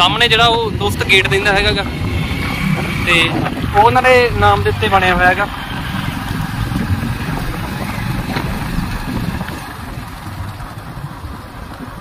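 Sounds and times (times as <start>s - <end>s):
vehicle engine rumbling: 0.0s - 12.0s
wind buffeting microphone: 0.0s - 12.0s.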